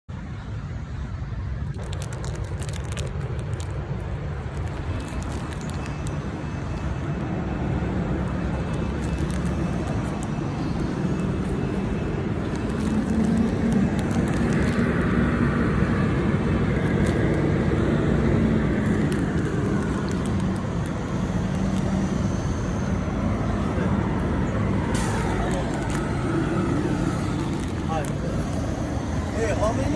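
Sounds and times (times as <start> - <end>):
vehicle engine and road noise: 0.1 - 29.9.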